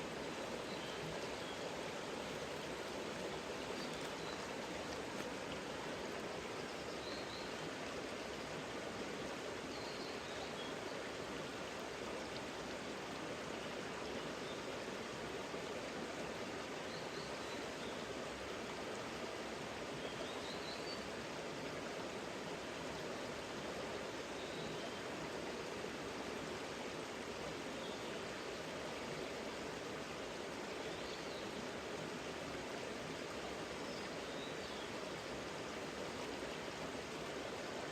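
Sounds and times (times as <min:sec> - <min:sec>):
mountain stream flowing: 0:00.0 - 0:37.9.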